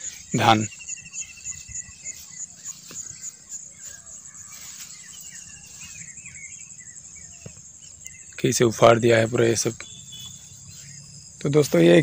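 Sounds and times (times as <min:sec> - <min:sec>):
insect pulsing trill: 0:00.0 - 0:12.0
small birds chirping: 0:00.0 - 0:12.0.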